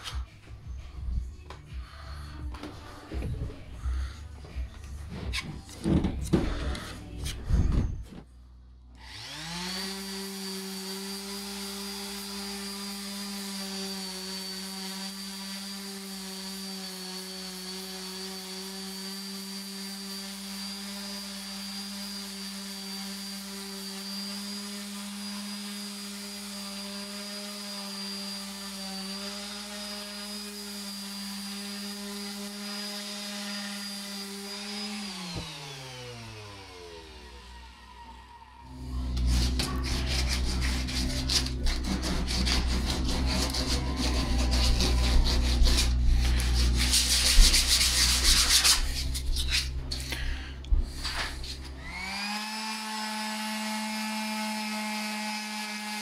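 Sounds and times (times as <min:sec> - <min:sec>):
orbital sander running: 0:09.0 - 0:56.0.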